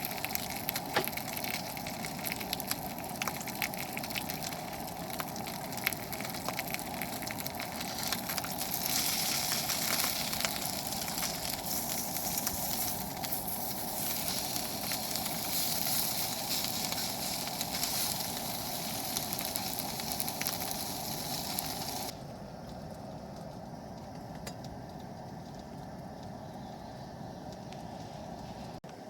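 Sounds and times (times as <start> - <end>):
wood fire crackling and popping: 0.0 - 27.9
steady fire hiss: 0.0 - 28.8.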